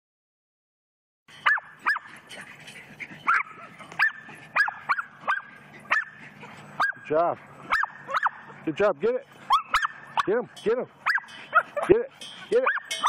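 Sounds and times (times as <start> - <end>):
small dogs yapping: 1.3 - 8.7, 9.3 - 13.0.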